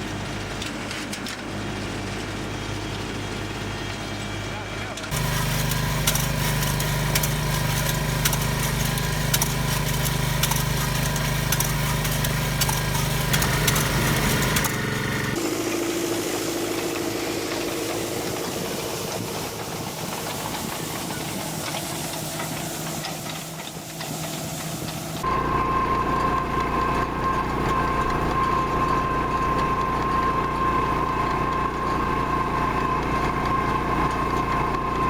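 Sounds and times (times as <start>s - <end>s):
farm machinery engine hum: 5.0s - 35.0s
quieter steady machine sound: 5.1s - 35.0s.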